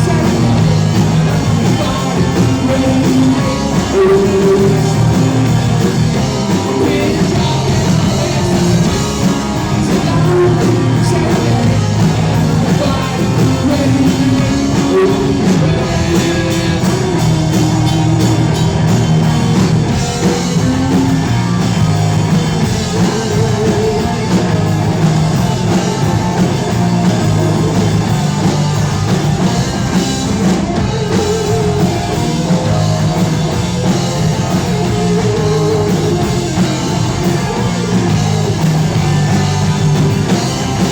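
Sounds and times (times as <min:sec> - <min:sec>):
lead vocal singing: 0:00.0 - 0:18.6, 0:19.9 - 0:28.3, 0:30.4 - 0:40.9
rock band playing live: 0:00.0 - 0:40.9.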